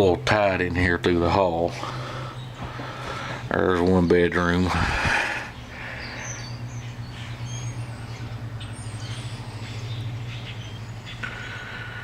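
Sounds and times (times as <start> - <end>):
steady low hum: 0.0 - 12.0
small birds chirping: 0.7 - 12.0.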